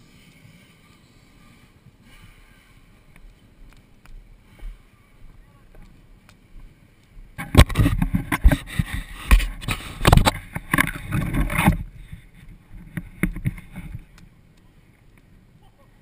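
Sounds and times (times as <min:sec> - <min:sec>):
rough buffeting noise: 0:00.0 - 0:16.0.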